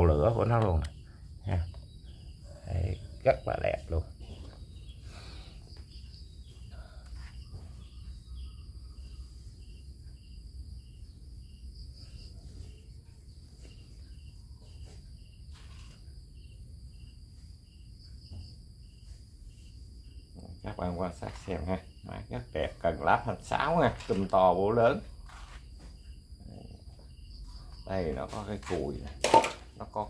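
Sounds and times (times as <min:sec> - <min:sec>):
insect chirping: 0:00.0 - 0:30.0.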